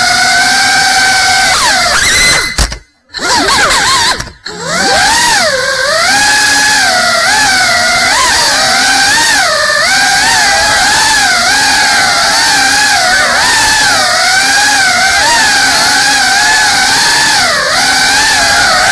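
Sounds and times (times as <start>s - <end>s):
drone motors and propellers whining: 0.0s - 18.9s.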